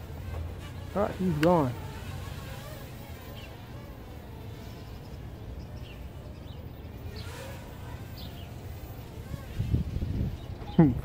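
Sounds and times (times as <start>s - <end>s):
quadcopter propellers buzzing: 0.0s - 11.0s.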